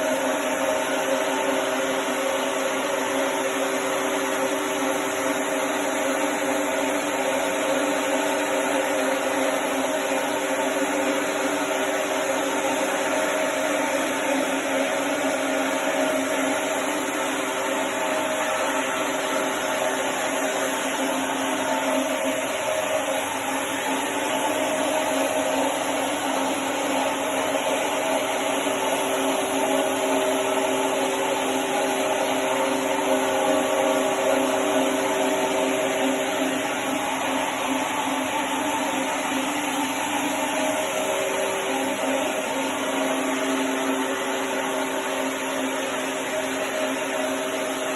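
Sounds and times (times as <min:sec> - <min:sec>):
floor machine motor hum: 0:00.0 - 0:47.9.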